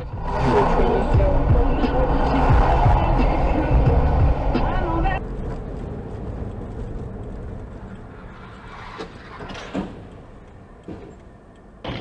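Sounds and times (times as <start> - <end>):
car interior road rumble: 0.0 - 11.8.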